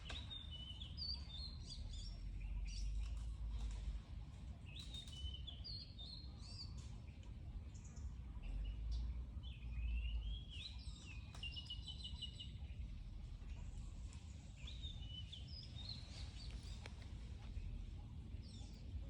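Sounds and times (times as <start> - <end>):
low steady rumble: 0.0 - 19.0
songbird chirping: 0.0 - 19.0.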